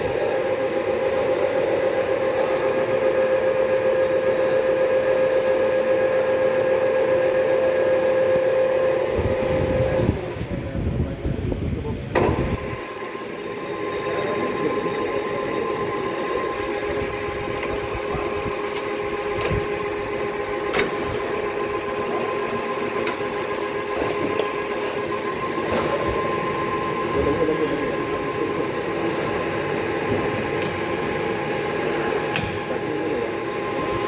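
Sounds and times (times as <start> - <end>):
lathe gearbox whine and rumble: 0.0 - 11.2, 12.1 - 34.0.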